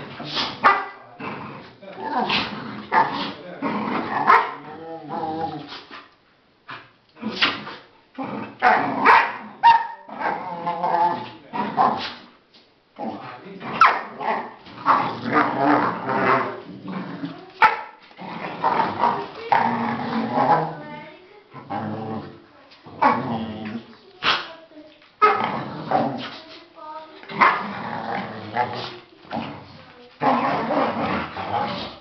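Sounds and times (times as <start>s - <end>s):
dogs growling and barking: 0.0s - 6.1s, 6.7s - 12.3s, 13.0s - 24.5s, 25.2s - 26.5s, 27.2s - 32.0s.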